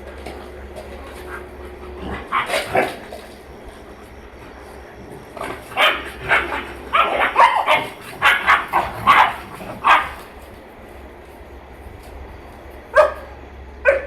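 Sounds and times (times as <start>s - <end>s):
dogs barking and yipping: 0.1s - 10.6s, 12.9s - 14.0s.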